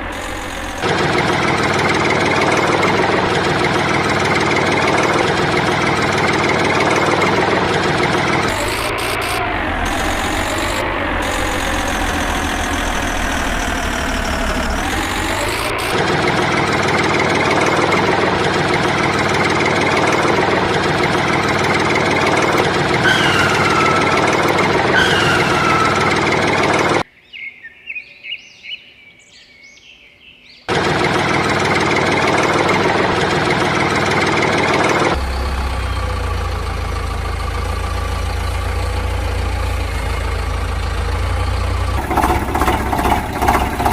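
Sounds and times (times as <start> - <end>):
tractor engine revving and idling: 0.0 - 27.1, 30.7 - 43.9.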